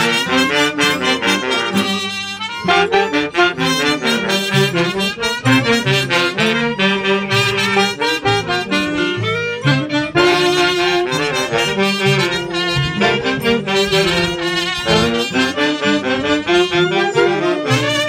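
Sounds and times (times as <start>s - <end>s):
saxophones and clarinet playing melody: 0.0s - 18.0s.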